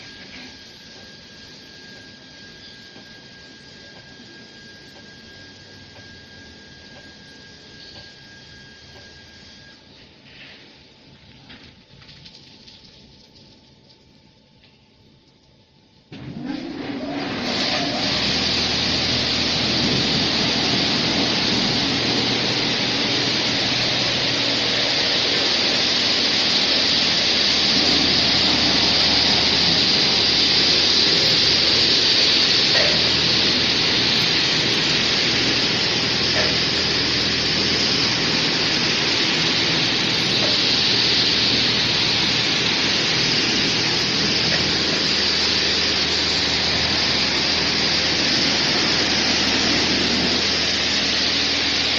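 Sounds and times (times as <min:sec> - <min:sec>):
high-pressure water jets spraying: 0:00.0 - 0:09.7, 0:16.2 - 0:51.9.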